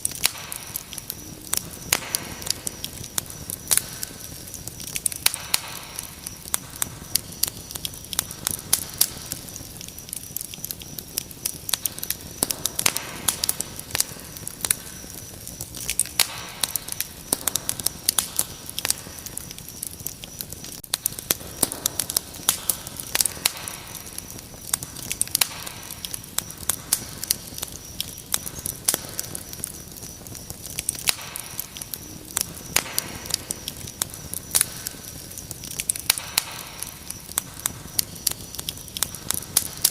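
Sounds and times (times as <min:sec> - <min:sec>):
crickets chirring: 0:00.0 - 0:39.9
wood fire crackling and popping: 0:00.0 - 0:39.9.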